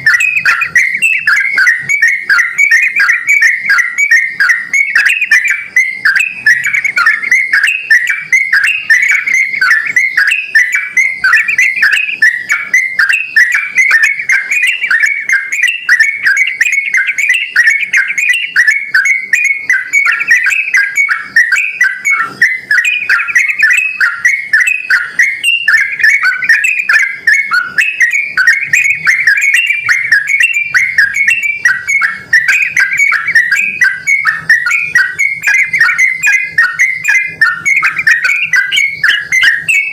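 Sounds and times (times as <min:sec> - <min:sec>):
bulbul singing whistled notes: 0:00.0 - 0:39.9.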